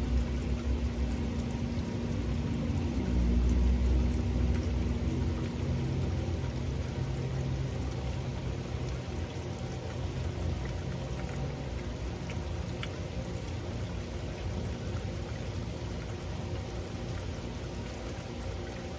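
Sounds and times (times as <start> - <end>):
steady rain: 0.0 - 18.9.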